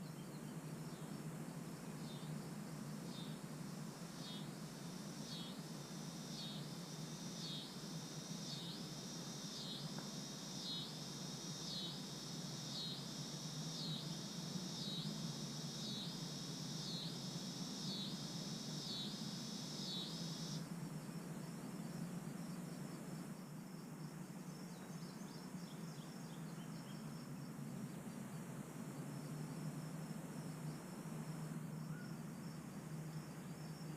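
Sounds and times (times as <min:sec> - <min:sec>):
insects pulsing song: 0:00.0 - 0:33.9
steady high insect trill: 0:00.0 - 0:33.9
steady low hum: 0:00.0 - 0:33.9.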